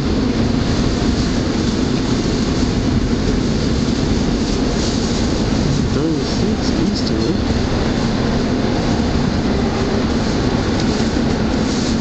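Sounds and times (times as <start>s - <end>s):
trolley rumbling on rails: 0.0s - 12.0s.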